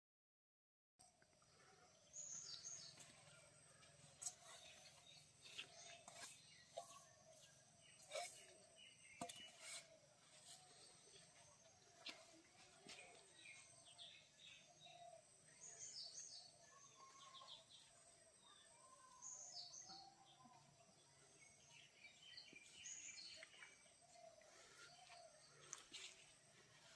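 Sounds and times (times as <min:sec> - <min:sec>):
bird chirps: 0:01.8 - 0:26.9.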